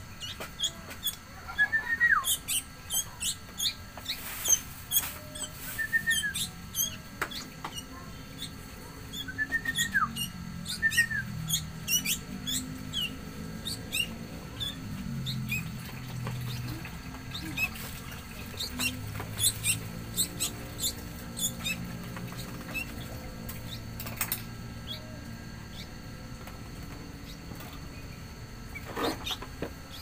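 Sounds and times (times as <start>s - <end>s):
faint low hum: 0.0s - 30.0s
small birds chirping: 0.0s - 30.0s.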